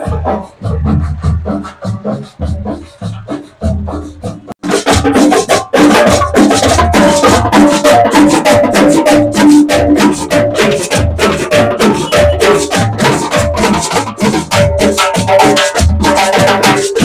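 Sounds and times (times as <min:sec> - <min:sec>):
drumline marching cadence: 0:00.0 - 0:17.0.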